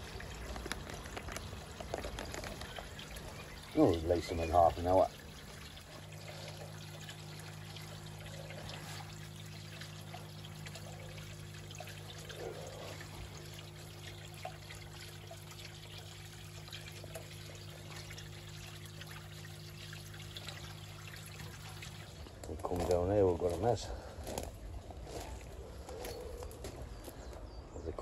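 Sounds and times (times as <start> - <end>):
water trickling into pond: 0.0 - 28.0
steady low hum: 2.6 - 27.8.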